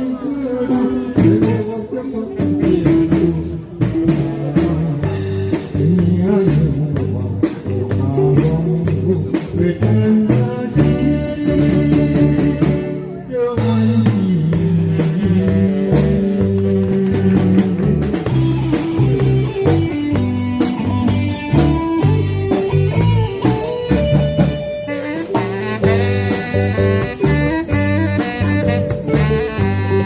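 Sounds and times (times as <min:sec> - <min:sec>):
band playing instrumental: 0:00.0 - 0:30.0
drum kit beat: 0:00.0 - 0:30.0
guitar: 0:00.0 - 0:30.0.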